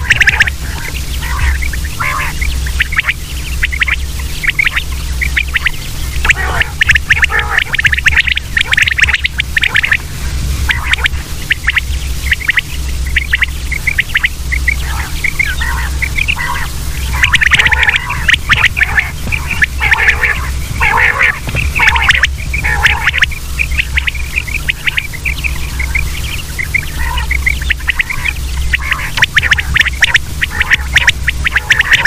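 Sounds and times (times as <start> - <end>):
quail calling: 0.0 - 32.0
steady low hum: 0.0 - 32.0.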